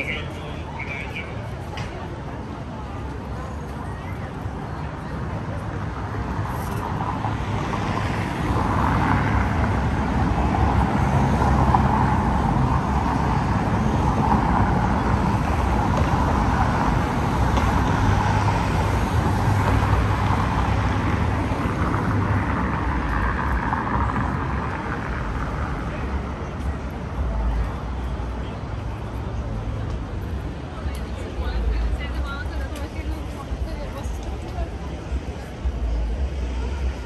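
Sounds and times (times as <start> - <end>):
traffic rumble and hiss: 0.0 - 37.0.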